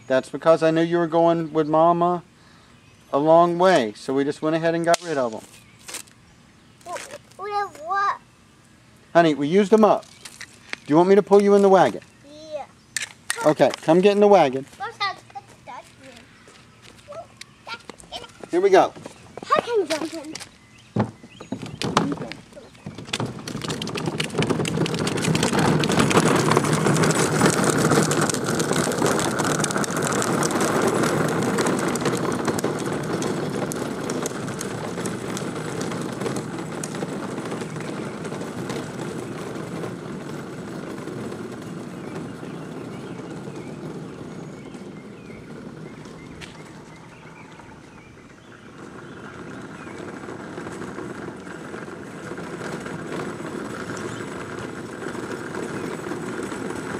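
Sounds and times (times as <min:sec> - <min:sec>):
wagon wheels rolling over ground: 0:00.0 - 0:02.2, 0:03.1 - 0:56.9.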